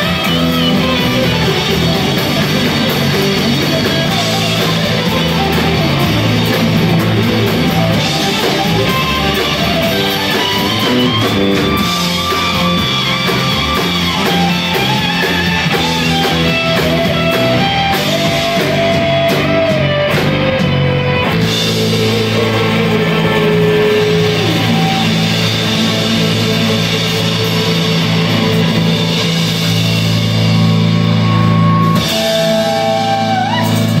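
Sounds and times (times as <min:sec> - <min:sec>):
lead guitar long notes: 0:00.0 - 0:34.0
live rock band playing: 0:00.0 - 0:34.0.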